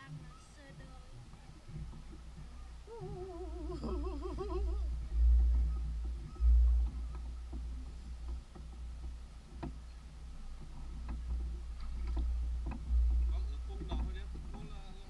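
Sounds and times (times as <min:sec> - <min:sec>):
faint clicks and knocks: 0:00.0 - 0:15.0
wind buffeting microphone: 0:00.0 - 0:15.0.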